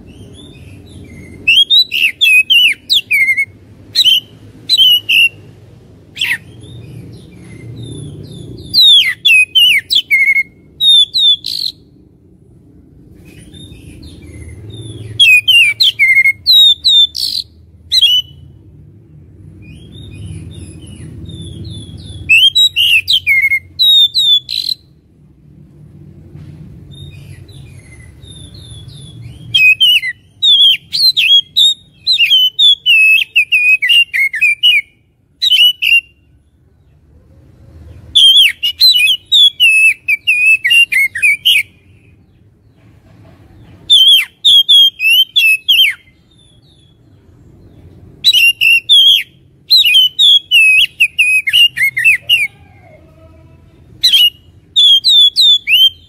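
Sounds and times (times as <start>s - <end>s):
songbird singing: 0.0s - 25.3s, 26.8s - 56.0s.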